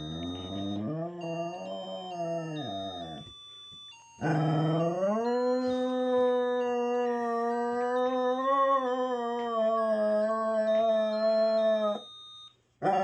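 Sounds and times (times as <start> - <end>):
electronic melody: 0.0 - 12.2.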